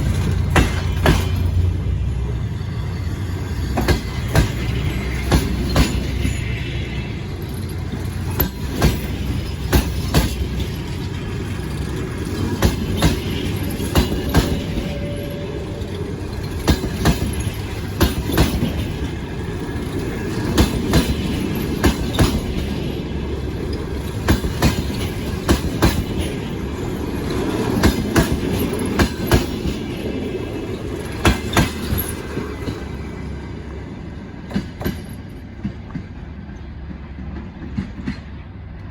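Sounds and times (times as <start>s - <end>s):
train rumble: 0.0s - 38.9s
train wheels clacking on rails: 0.0s - 38.9s.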